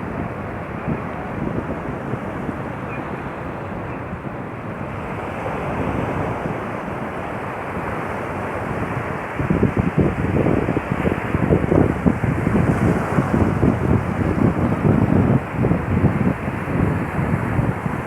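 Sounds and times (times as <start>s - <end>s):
sea waves washing on beach: 0.0s - 18.0s
wind blowing over microphone: 0.0s - 18.0s.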